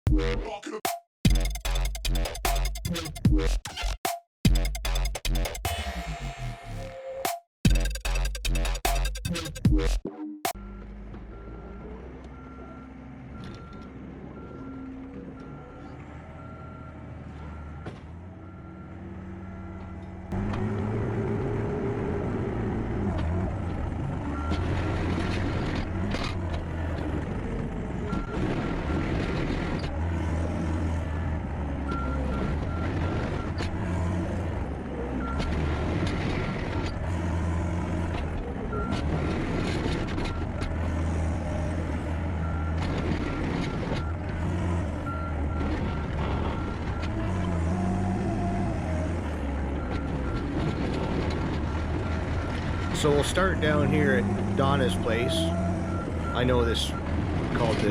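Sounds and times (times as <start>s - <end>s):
diesel engine running: 10.6s - 57.9s.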